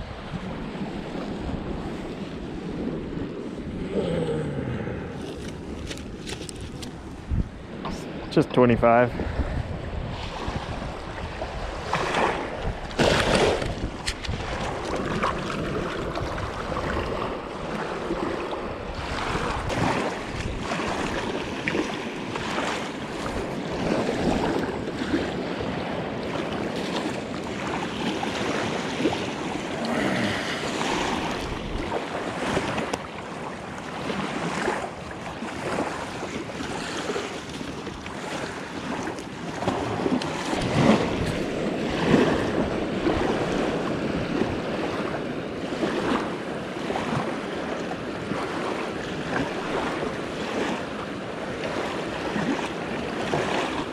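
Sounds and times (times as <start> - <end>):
water lapping on shoreline: 0.0 - 53.9
wind buffeting microphone: 0.0 - 53.9.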